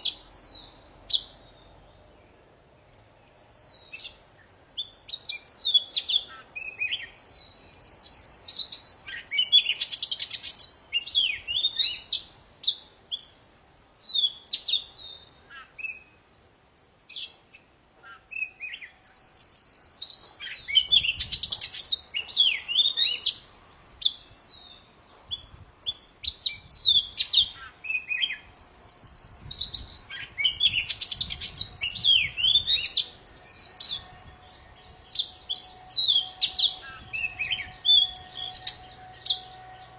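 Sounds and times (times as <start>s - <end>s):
bird singing whistles and trills: 0.0s - 2.1s, 3.2s - 16.2s, 17.0s - 39.9s.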